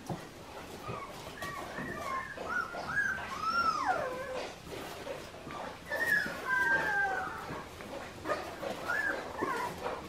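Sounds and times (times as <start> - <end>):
puppies whining and whimpering: 0.1 - 10.0.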